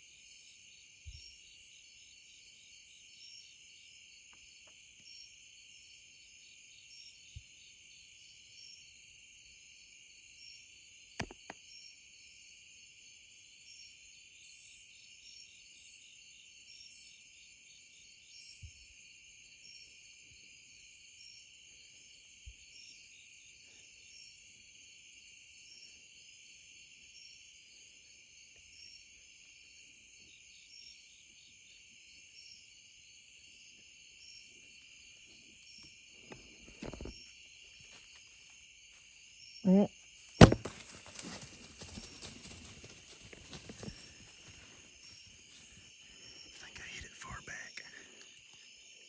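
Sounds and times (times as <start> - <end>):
crickets trilling: 0.0 - 49.0.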